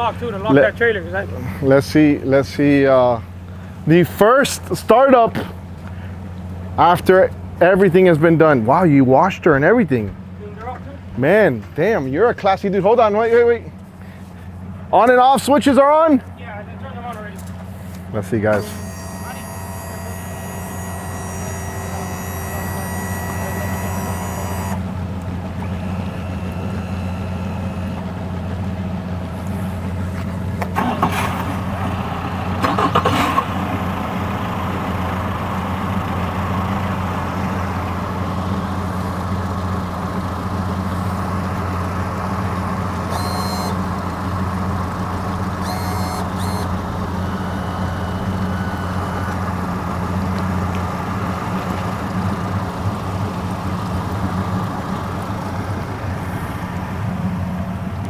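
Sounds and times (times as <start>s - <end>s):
outboard engines idling: 0.0s - 58.0s.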